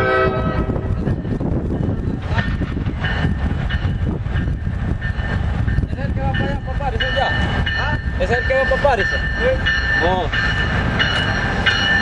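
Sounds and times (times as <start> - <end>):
diesel train rumbling on rails: 0.0 - 12.0.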